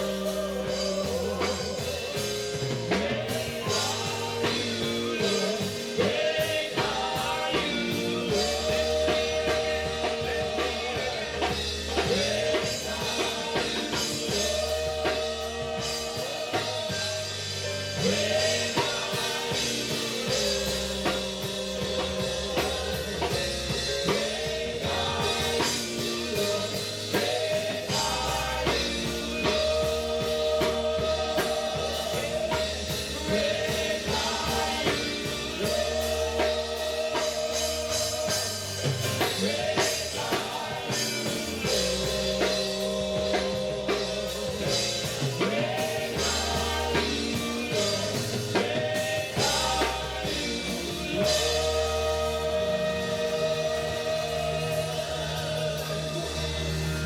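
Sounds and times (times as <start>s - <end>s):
drum kit steady beat: 0.0s - 57.0s
praise band playing worship music: 0.0s - 57.0s.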